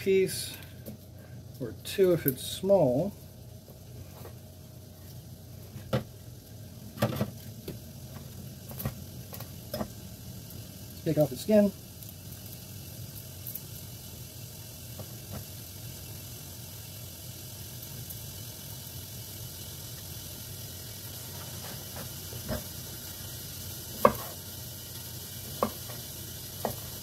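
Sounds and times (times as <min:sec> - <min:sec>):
faint bacon sizzle: 0:00.0 - 0:27.0.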